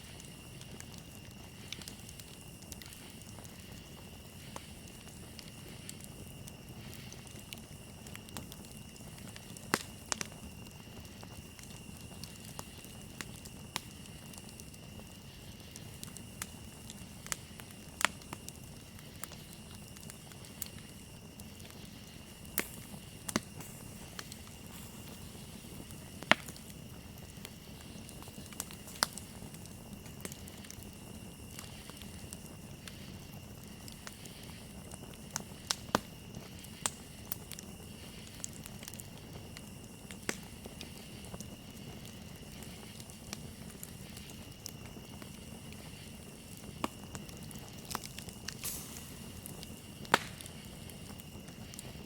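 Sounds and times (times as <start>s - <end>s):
campfire crackling and popping: 0.0s - 52.0s
crickets trilling: 0.0s - 52.0s.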